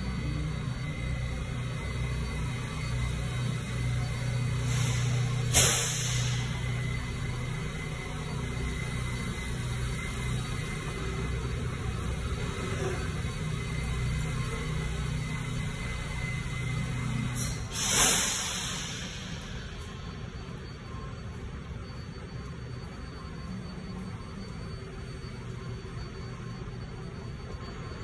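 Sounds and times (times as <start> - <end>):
subway trains humming: 0.0 - 28.0.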